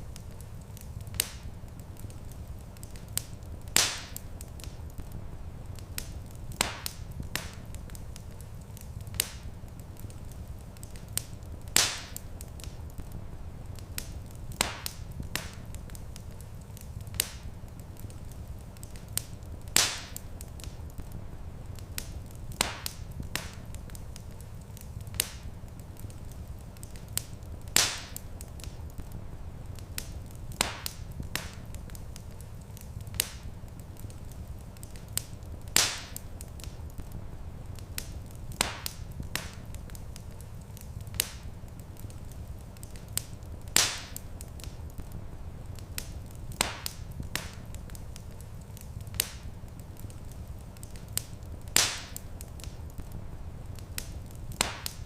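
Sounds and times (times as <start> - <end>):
low rumble of fire: 0.0 - 55.0
wood fire popping: 0.0 - 55.0.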